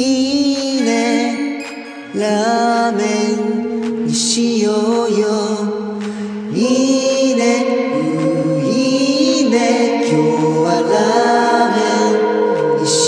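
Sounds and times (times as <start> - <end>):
chant-like singing voices: 0.0 - 13.0.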